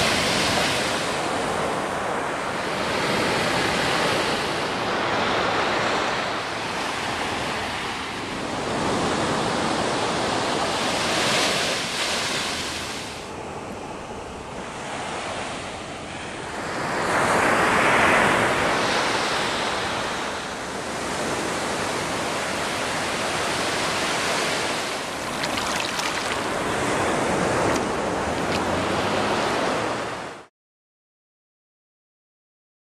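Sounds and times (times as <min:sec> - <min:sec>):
waves breaking on beach: 0:00.0 - 0:30.5.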